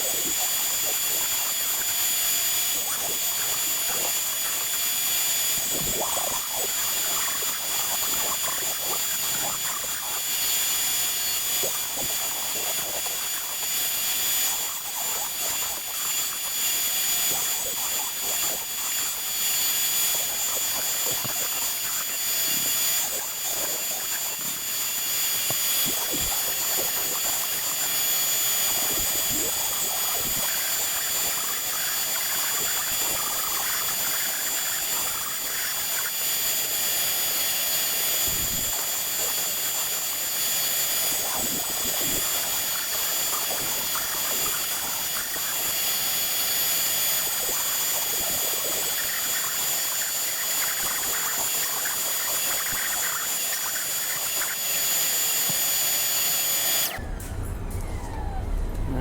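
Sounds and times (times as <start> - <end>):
router spindle whining: 0.0 - 59.0.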